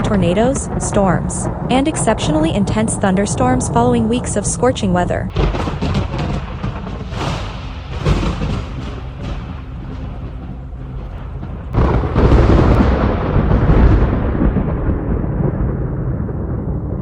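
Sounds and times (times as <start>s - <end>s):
loud thunderclap: 0.0s - 4.6s, 5.2s - 17.0s
thunder rumbling: 0.0s - 17.0s.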